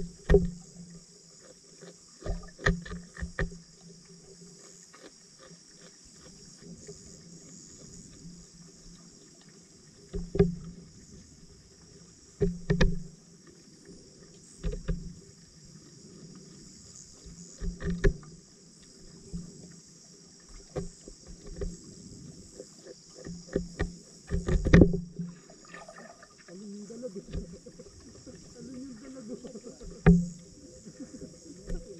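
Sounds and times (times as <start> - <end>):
faint steady hiss: 0.0 - 31.9
muffled underwater sloshes and knocks: 0.0 - 31.9.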